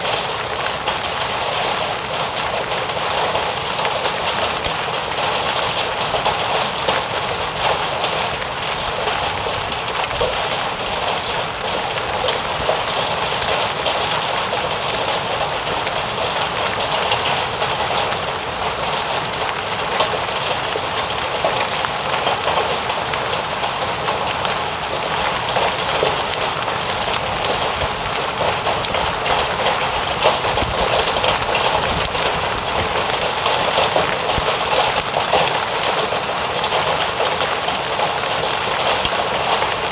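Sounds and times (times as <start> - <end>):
hailstones ticking: 0.0 - 39.9
heavy rain: 0.0 - 39.9.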